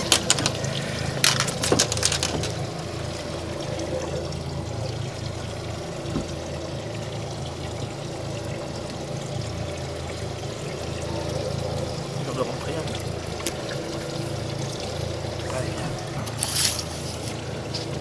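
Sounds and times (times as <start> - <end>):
low steady hum: 0.0 - 18.0
water trickling and pouring: 0.0 - 18.0.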